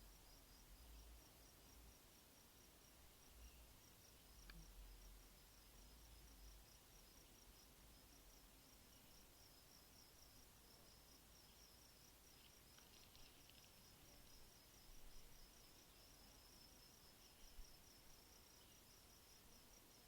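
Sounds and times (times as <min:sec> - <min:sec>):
background hiss: 0:00.0 - 0:20.0
insect chirping: 0:00.0 - 0:20.0.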